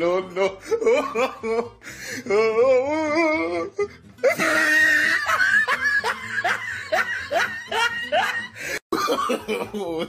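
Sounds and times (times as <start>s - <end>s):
person laughing: 0.3s - 10.0s.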